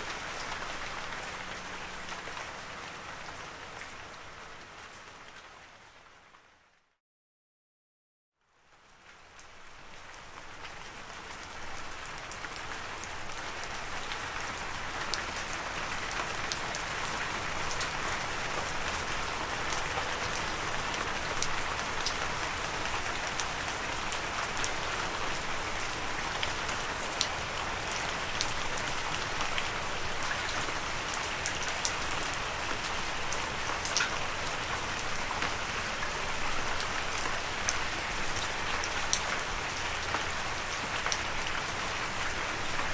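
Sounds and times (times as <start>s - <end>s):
rain falling: 0.0s - 6.6s, 8.6s - 42.9s
raindrops ticking on a surface: 8.4s - 42.9s.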